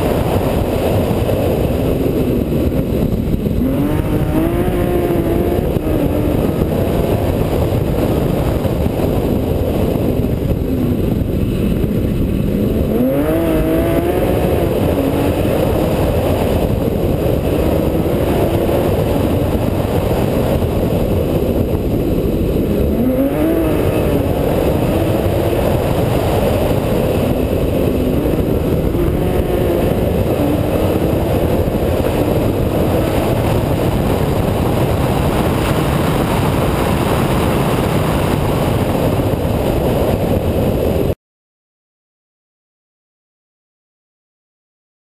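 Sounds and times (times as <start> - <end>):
rally car engine revving: 0.0 - 41.1
wind and road noise: 0.0 - 41.2.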